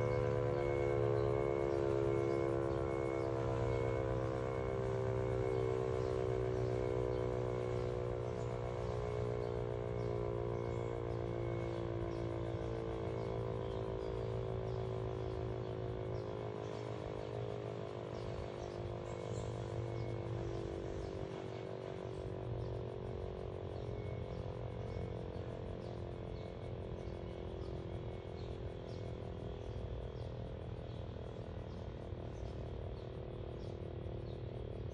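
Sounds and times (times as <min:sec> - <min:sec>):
warning siren winding down: 0:00.0 - 0:29.1.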